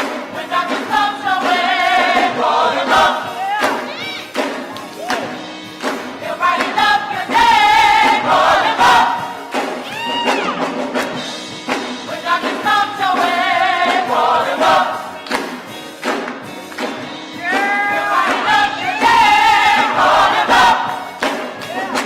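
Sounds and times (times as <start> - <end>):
gospel choir singing: 0.0 - 9.9, 10.6 - 16.4, 17.3 - 22.0
band accompaniment: 0.0 - 22.0
steady percussion beat: 0.0 - 22.0.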